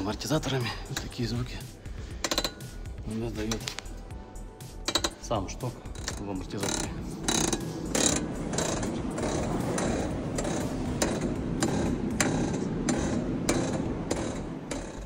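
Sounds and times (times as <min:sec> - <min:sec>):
shock absorbers squeaking: 0:00.0 - 0:04.1, 0:04.7 - 0:15.0.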